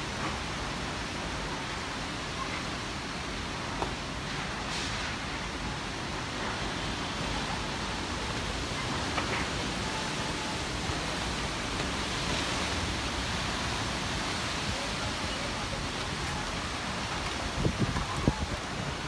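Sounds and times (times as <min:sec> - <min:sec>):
heavy rain hissing: 0:00.0 - 0:19.0.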